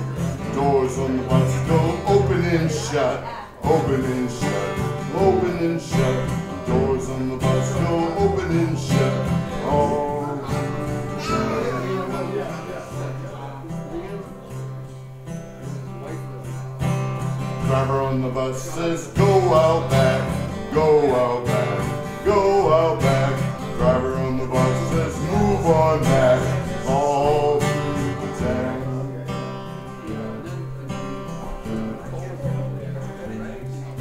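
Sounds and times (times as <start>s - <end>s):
band music with guitar: 0.0s - 34.0s.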